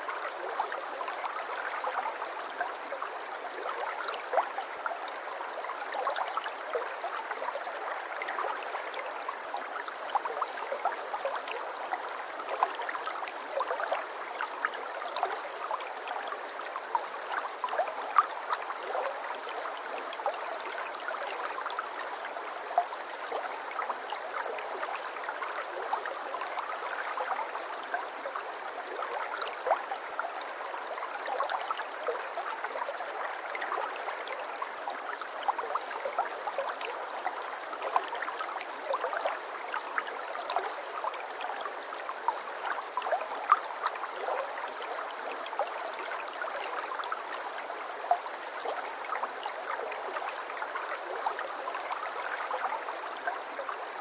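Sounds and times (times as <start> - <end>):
brook babbling: 0.0 - 54.0.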